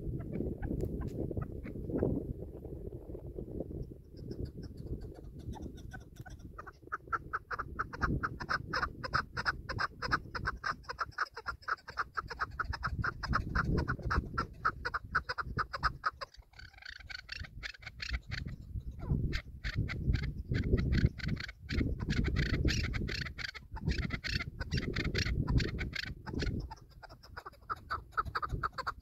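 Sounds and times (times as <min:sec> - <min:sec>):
wind rumble on microphone: 0:00.0 - 0:29.0
partridge clucking call: 0:04.1 - 0:29.0.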